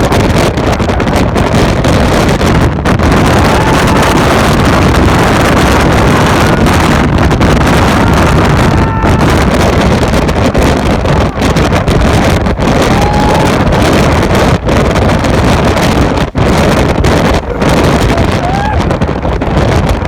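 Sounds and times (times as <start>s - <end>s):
storm wind buffeting microphone: 0.0s - 20.0s.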